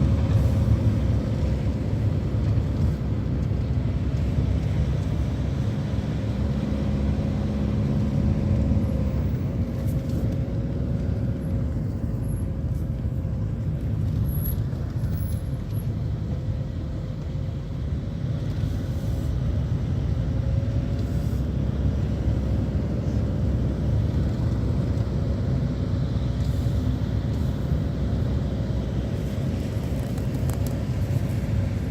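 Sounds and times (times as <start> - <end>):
car engine and road rumble: 0.0 - 31.9.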